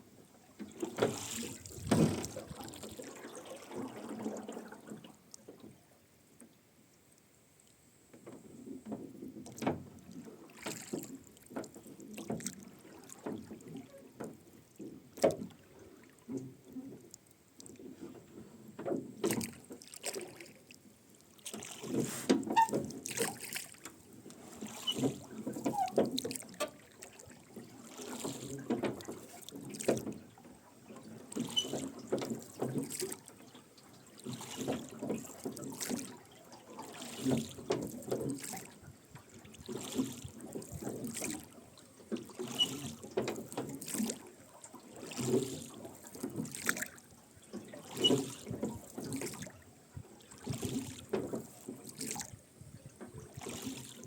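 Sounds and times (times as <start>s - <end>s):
oar blades splashing: 0.6s - 5.1s, 8.4s - 33.6s, 34.2s - 49.6s, 50.2s - 52.4s, 53.1s - 54.0s.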